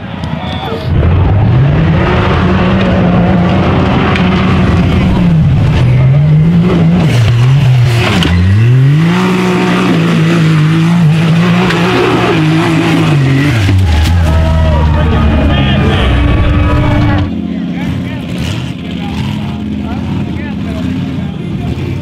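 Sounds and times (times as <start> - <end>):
engine revving high: 0.9 - 20.0.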